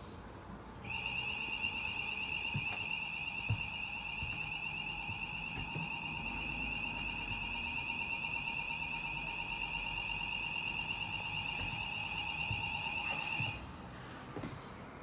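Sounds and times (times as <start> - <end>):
high-pitched warning buzzer tone: 0.9 - 13.6.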